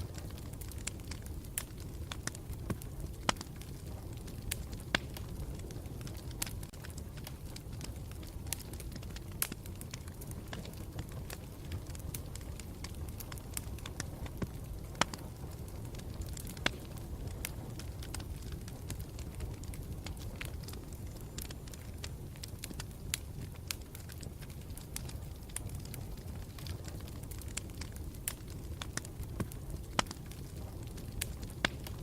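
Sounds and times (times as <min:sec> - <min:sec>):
campfire rumble: 0:00.0 - 0:32.0
fire crackling and popping: 0:00.0 - 0:32.0.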